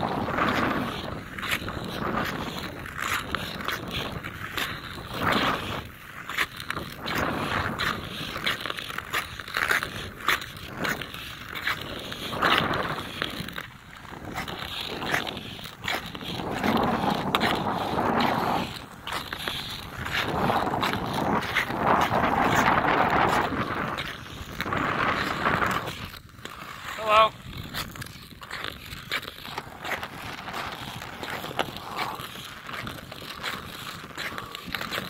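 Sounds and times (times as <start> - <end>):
ice skate blades scraping ice: 0.0 - 35.0
skate blades clicking: 0.0 - 35.0.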